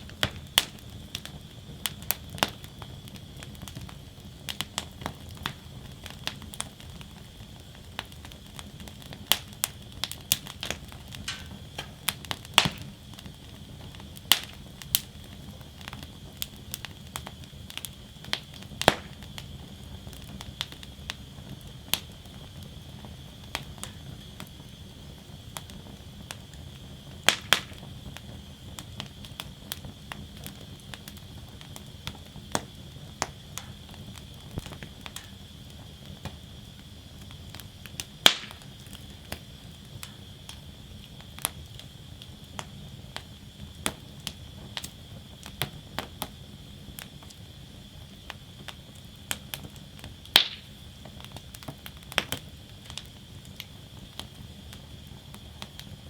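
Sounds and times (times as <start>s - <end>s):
rush of flames: 0.0s - 56.0s
wood fire crackling and popping: 0.0s - 56.0s.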